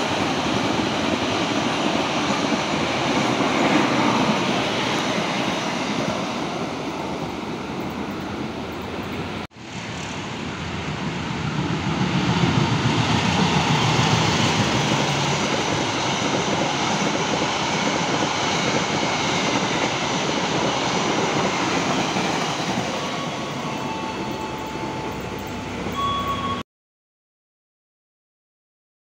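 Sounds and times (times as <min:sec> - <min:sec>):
passenger train passing: 0:00.0 - 0:26.6
wheel and rail noise: 0:00.0 - 0:26.6.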